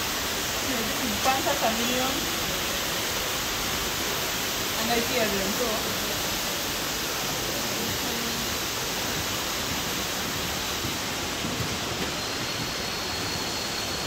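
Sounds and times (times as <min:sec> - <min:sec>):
faint high steady whine: 0:00.0 - 0:14.0
steady rushing noise: 0:00.0 - 0:14.0.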